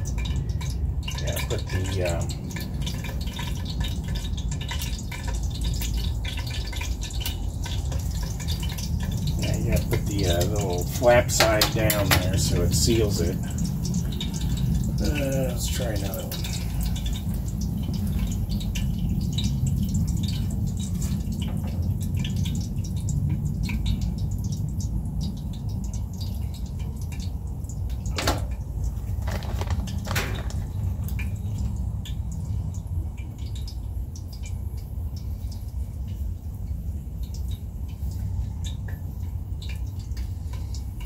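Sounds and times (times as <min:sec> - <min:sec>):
food sizzling in hot oil: 0:00.0 - 0:41.0
low steady rumble: 0:00.0 - 0:41.0
oil pops and crackles: 0:00.0 - 0:41.0.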